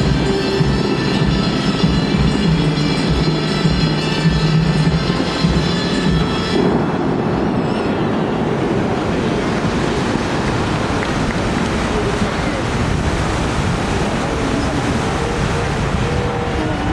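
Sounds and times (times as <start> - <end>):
fountain water rushing and splashing: 0.0 - 16.9.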